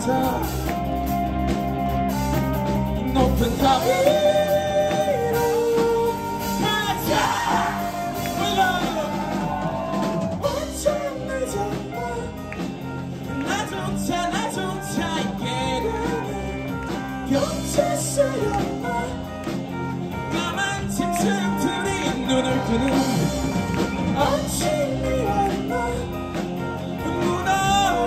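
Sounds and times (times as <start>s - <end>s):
person singing: 0.0s - 1.2s, 2.7s - 28.0s
bass guitar: 0.0s - 28.0s
drum kit: 0.0s - 28.0s
electric guitars: 0.0s - 28.0s.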